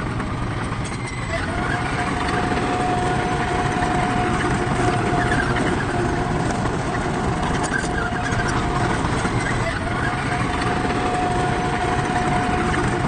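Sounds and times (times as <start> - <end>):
heavy machinery diesel engine: 0.0 - 13.0
high-pitched whine: 0.0 - 13.0.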